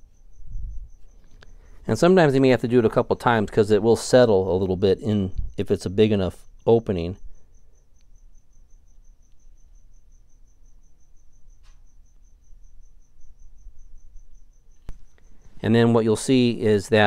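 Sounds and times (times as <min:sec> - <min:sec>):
cricket chirping: 0:00.0 - 0:17.0
faint low hum: 0:00.0 - 0:17.0.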